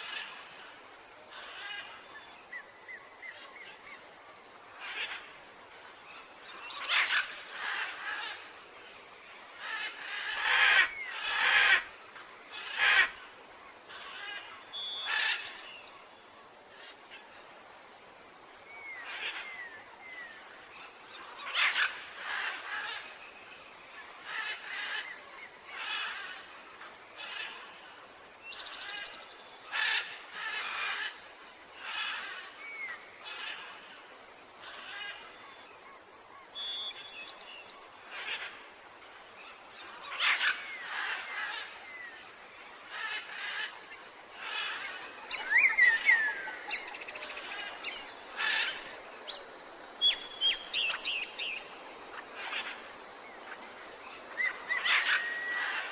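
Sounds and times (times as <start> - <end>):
faint steady hiss: 0.0 - 55.9
birds and animals calling: 1.3 - 4.0, 6.5 - 8.4, 9.6 - 16.1, 18.7 - 26.6, 27.2 - 38.7, 39.4 - 55.9.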